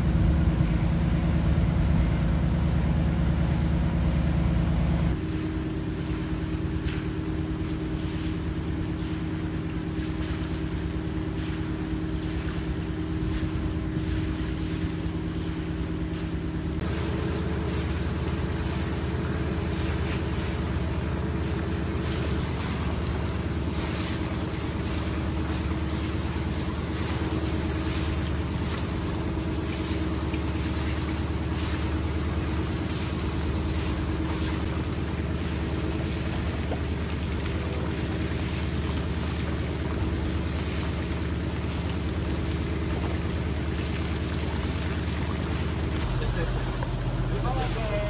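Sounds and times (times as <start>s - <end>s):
boat engine running steadily: 0.0s - 48.0s
constant hiss: 5.1s - 48.0s.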